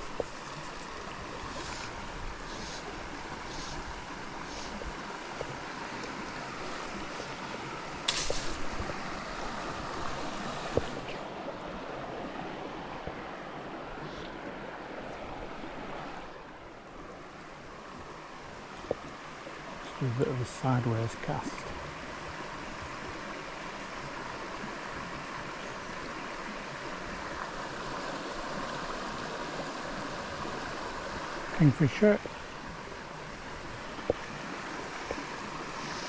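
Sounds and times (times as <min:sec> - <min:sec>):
river water running: 0:00.0 - 0:36.0.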